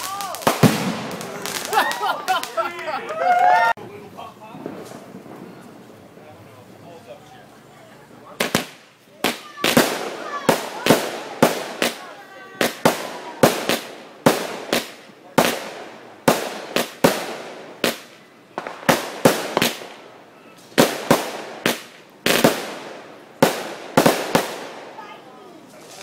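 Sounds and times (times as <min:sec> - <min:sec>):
fireworks bangs: 0:00.0 - 0:03.8, 0:04.4 - 0:07.1, 0:08.2 - 0:26.0.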